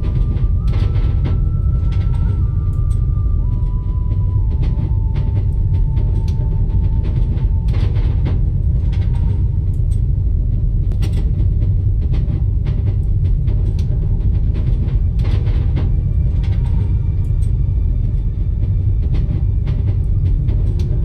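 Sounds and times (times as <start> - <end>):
train carriage rumble: 0.0 - 21.0.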